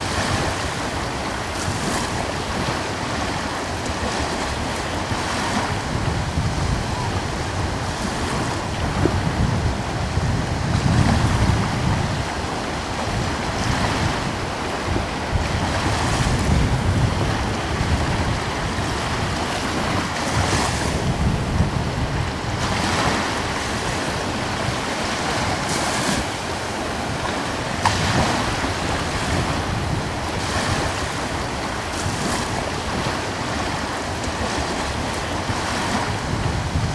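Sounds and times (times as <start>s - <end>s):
ocean waves washing ashore: 0.0s - 36.9s
wind rumbling on microphone: 0.0s - 36.9s.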